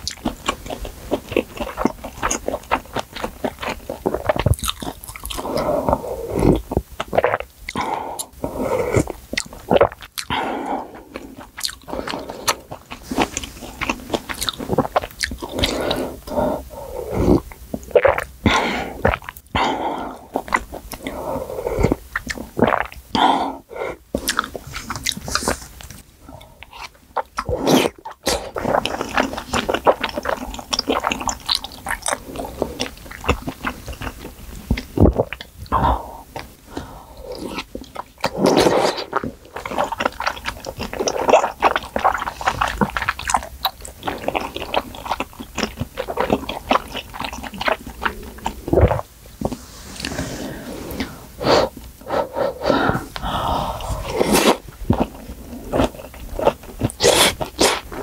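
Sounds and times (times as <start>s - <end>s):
slurping and chewing noodles: 0.0s - 58.0s.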